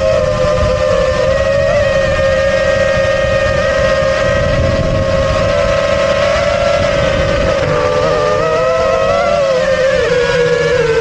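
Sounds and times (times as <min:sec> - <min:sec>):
drone motors whining: 0:00.0 - 0:11.0
wind rumble on microphone: 0:00.0 - 0:11.0.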